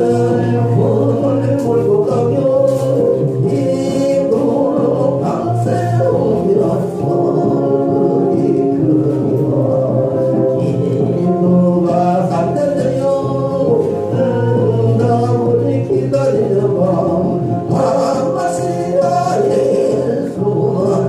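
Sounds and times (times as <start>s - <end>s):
instrumental accompaniment: 0.0s - 21.0s
singing with held notes: 0.0s - 21.0s.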